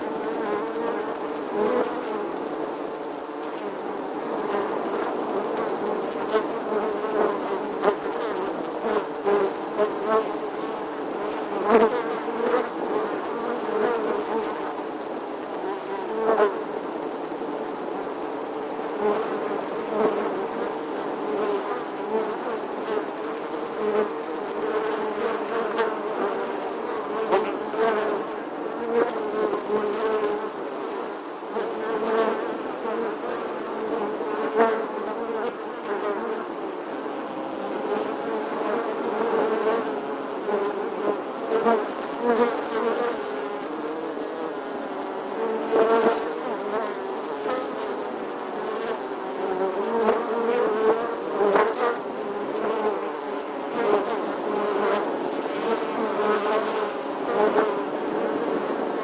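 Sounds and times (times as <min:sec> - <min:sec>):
bee buzzing: 0:00.0 - 0:59.0.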